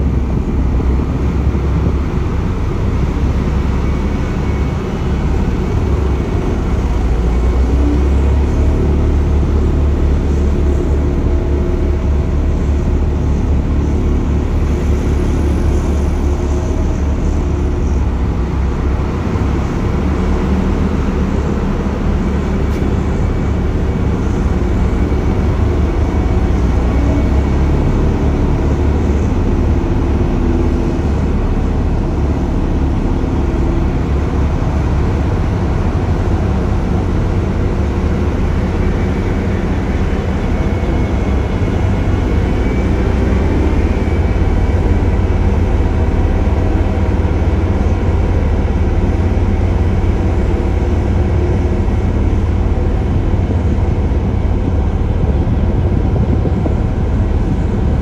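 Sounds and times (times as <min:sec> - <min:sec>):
road roller diesel engines rumbling: 0:00.0 - 0:58.0.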